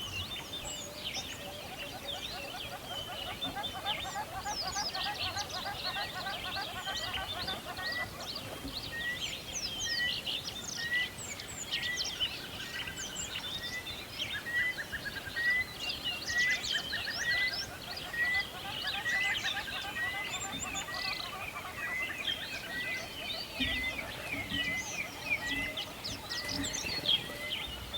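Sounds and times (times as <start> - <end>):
birds chirping and singing: 0.0 - 27.9.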